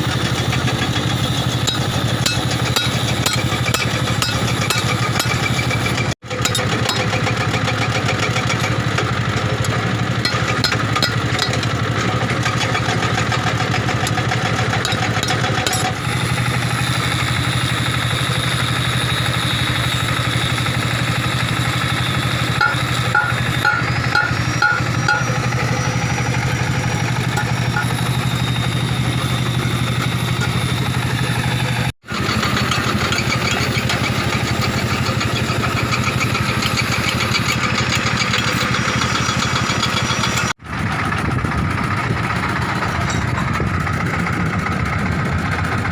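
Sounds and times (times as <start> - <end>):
engine idling hum: 0.0 - 45.9.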